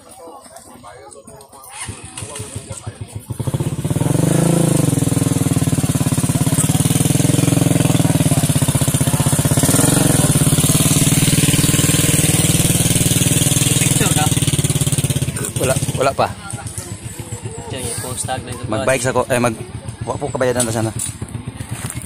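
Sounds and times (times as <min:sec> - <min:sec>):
motorcycle engine idling: 0:00.6 - 0:22.0.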